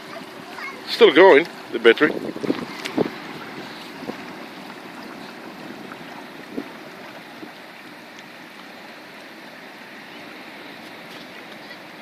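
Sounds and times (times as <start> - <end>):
lake water lapping: 0.0 - 12.0
wind: 0.0 - 12.0.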